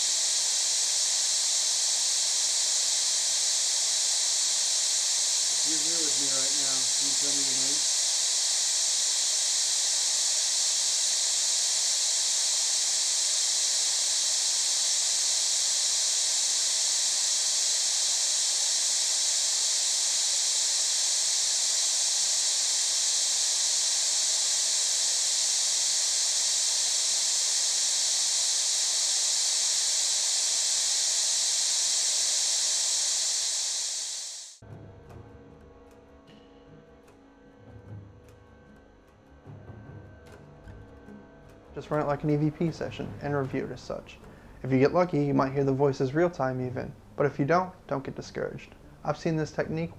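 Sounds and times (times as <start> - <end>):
high-pitched white noise hiss: 0.0 - 34.7, 39.4 - 49.9.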